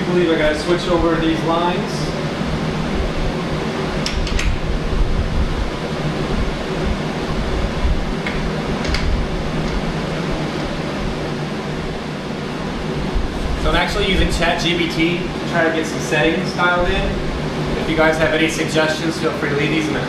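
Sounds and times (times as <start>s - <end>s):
electric fan running: 0.0s - 20.0s.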